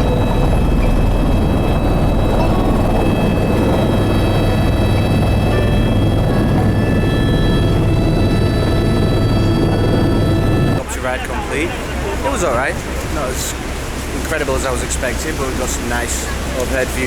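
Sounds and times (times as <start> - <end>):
helicopter drone with whine: 0.0 - 17.0.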